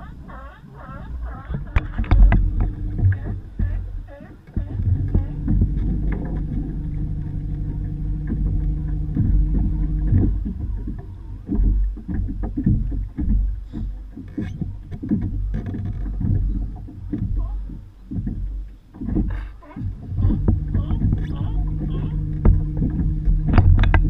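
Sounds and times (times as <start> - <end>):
low rumble: 0.0 - 24.0
splashes: 0.0 - 24.0
steady low hum: 0.0 - 24.0
water lapping against hull: 0.0 - 24.0.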